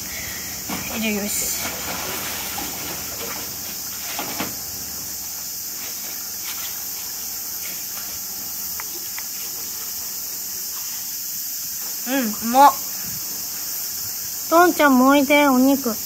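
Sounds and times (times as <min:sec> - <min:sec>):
insects shrilling: 0:00.0 - 0:16.0.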